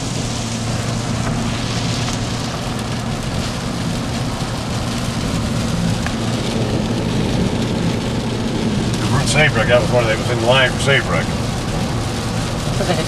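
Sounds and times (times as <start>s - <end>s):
rain on a car: 0.0s - 13.0s
vehicle low hum: 0.0s - 13.0s.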